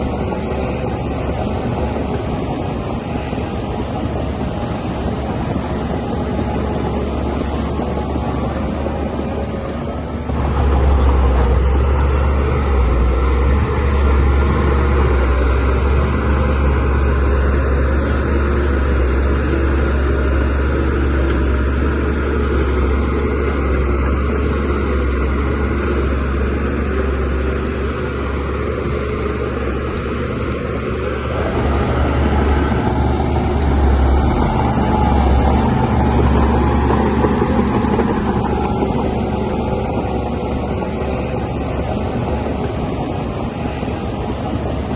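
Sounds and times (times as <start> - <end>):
bulldozer diesel engine rumbling: 0.0 - 44.9.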